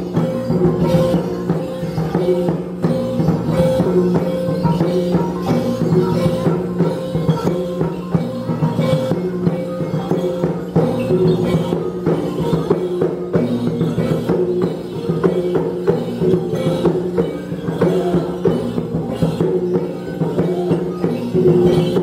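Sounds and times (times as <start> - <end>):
fast drum and percussion beat: 0.0 - 22.0.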